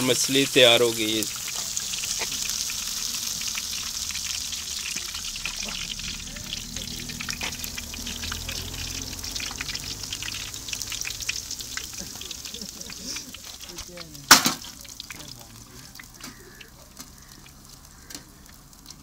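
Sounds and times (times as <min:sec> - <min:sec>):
hot oil sizzling and popping: 0:00.0 - 0:19.0.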